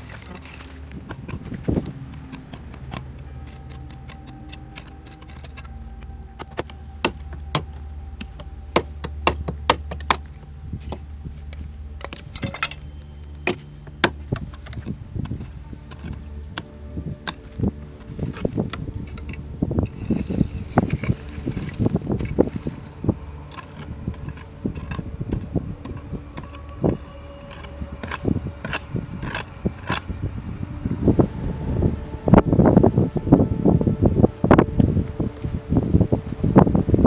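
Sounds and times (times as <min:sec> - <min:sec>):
metal tool clinking on stones: 0:00.0 - 0:30.2
low steady hum: 0:00.0 - 0:37.0.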